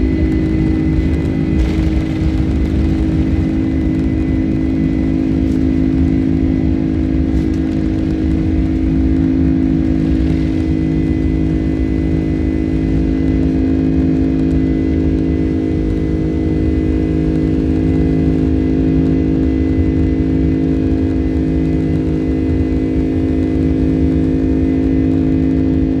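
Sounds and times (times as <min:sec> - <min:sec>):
jet engines droning: 0:00.0 - 0:26.0.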